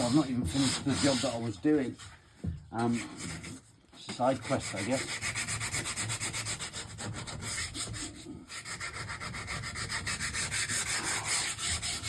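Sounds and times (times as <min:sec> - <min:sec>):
sandpaper rubbing on wood: 0:00.0 - 0:02.2, 0:02.8 - 0:12.0.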